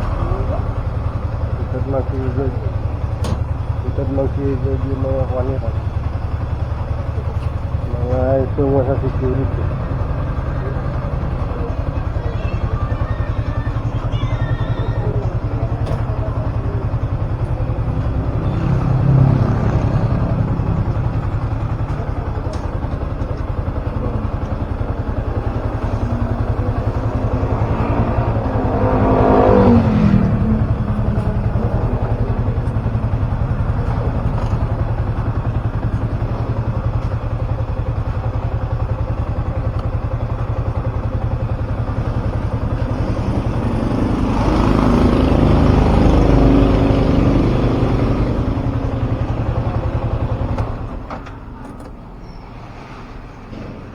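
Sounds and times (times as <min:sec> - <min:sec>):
motorcycle engine running: 0:00.0 - 0:52.4.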